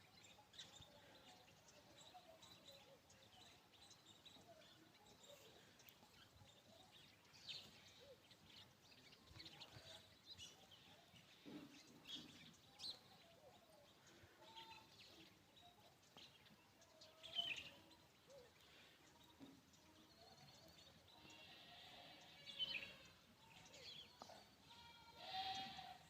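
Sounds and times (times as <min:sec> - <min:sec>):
bird chirps and calls: 0:00.0 - 0:26.0.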